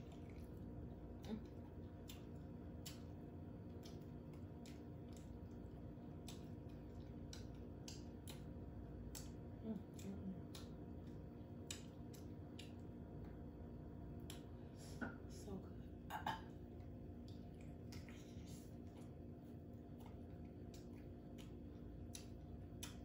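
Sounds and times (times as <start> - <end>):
chewing and lip smacking: 0.0 - 14.8, 15.8 - 23.0
steady low hum: 0.0 - 23.0.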